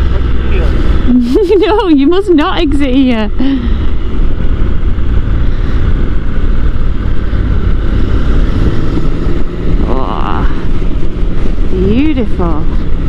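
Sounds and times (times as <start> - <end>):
motorcycle engine running: 0.0 - 13.0
wind rush: 0.0 - 13.0.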